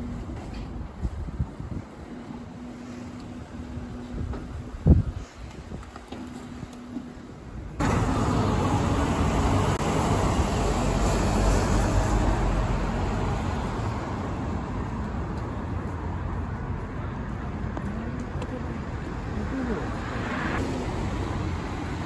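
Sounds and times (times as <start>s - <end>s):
road traffic driving past: 0.0s - 22.0s.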